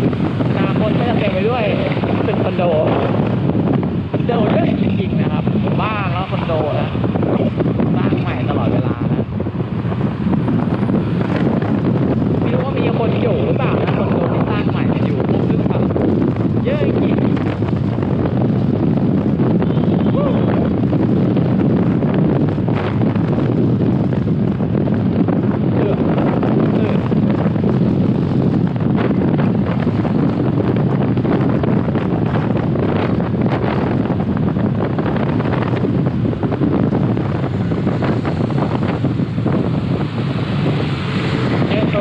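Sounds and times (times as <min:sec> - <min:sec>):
vehicle and road noise: 0:00.0 - 0:42.0
wind rushing over microphone: 0:00.0 - 0:42.0.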